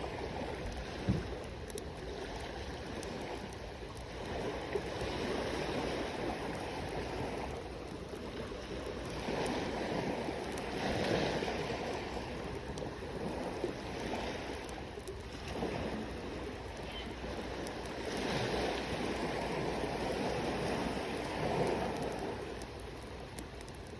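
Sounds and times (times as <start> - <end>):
campfire crackles: 0.0 - 23.9
small waves washing ashore: 0.0 - 23.9.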